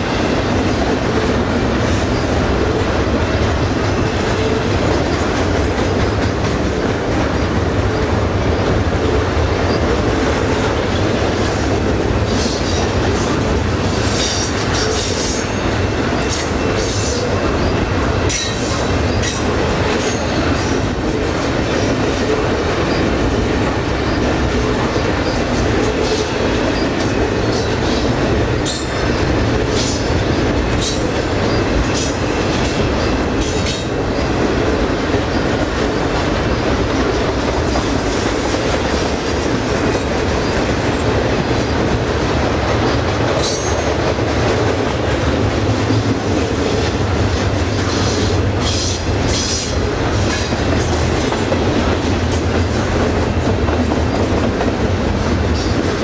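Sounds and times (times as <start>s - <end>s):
clicks and clanks of train cars: 0.0s - 56.0s
train wheels rumbling on rail: 0.0s - 56.0s.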